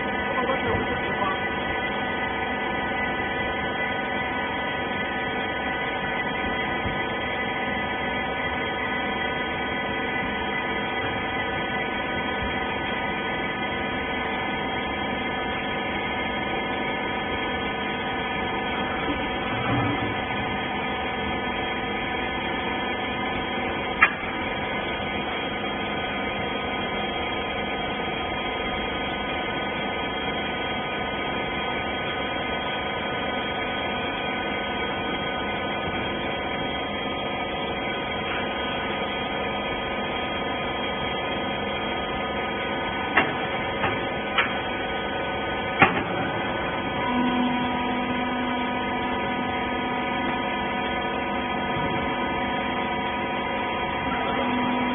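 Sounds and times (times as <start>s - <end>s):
hydraulic baler humming: 0.0s - 54.9s.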